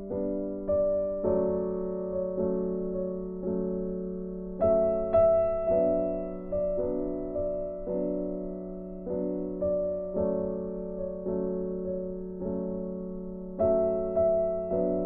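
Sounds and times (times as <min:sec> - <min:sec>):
slow gentle piano: 0:00.0 - 0:15.0.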